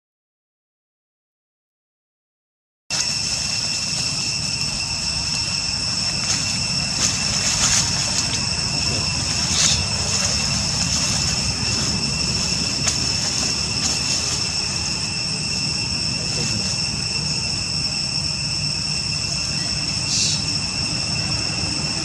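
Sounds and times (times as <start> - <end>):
insect chorus drone: 2.9 - 22.0
low rumble: 3.0 - 22.0.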